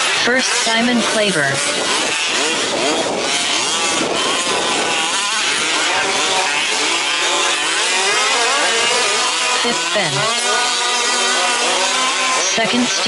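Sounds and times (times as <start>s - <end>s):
rc truck engines revving: 0.0s - 13.0s.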